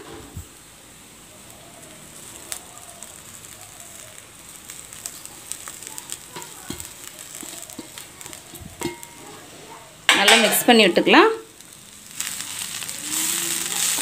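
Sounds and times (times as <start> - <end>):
masala sizzling in a pan: 0.0 - 14.0
small crackles: 0.3 - 14.0.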